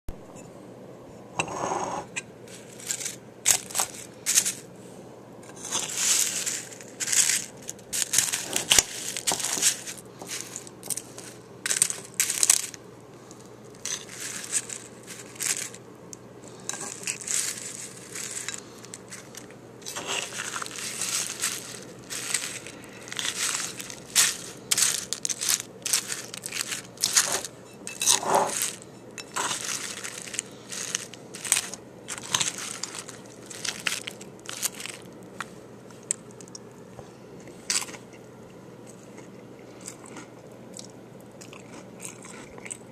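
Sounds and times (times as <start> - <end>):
crisp crunchy chewing: 2.5 - 4.7, 5.5 - 42.9.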